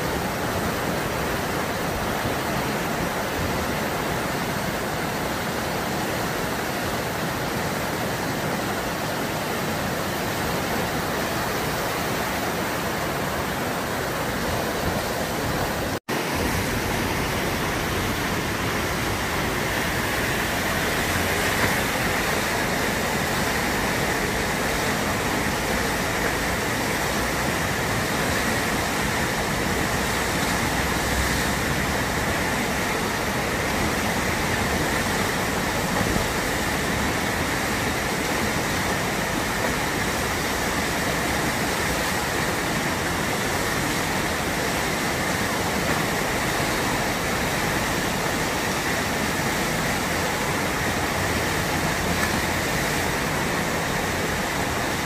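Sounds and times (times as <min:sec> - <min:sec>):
whitewater rushing: 0:00.0 - 0:55.0.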